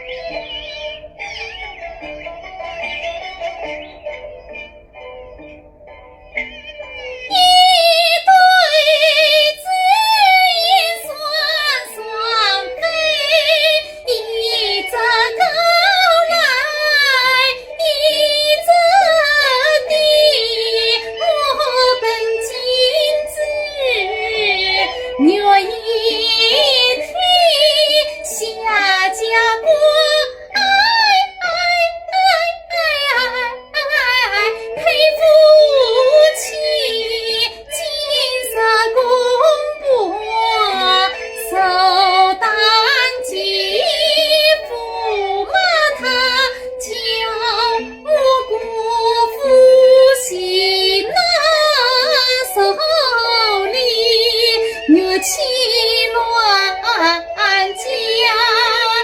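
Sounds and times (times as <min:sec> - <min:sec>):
instrumental accompaniment: 0:00.0 - 0:59.0
woman singing opera with vibrato: 0:07.3 - 0:59.0.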